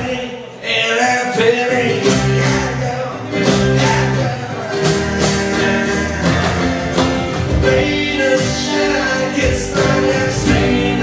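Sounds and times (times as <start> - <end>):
band music with strummed guitar: 0.0 - 11.0.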